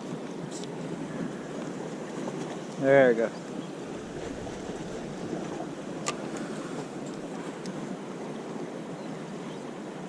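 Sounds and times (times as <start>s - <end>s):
sea waves: 0.0s - 10.0s
wind: 0.0s - 10.0s.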